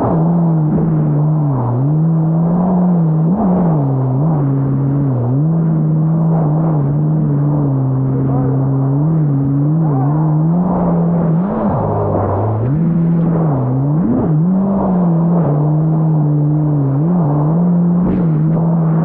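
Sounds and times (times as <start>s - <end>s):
jet ski engine running high: 0.0s - 19.0s
steady rushing noise: 0.0s - 19.0s.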